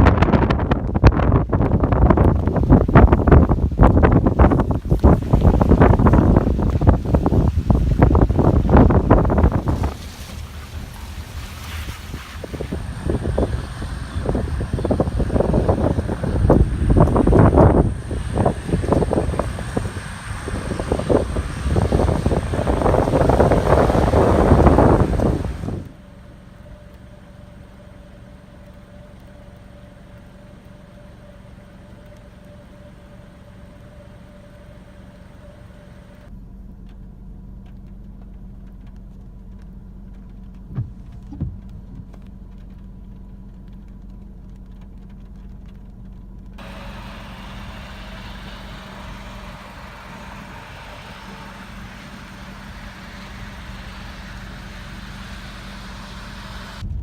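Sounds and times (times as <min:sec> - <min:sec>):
engine idling hum: 0:00.0 - 0:57.0.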